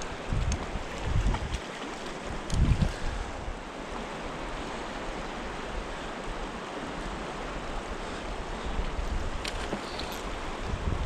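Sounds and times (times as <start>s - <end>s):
river current flowing: 0.0s - 11.0s.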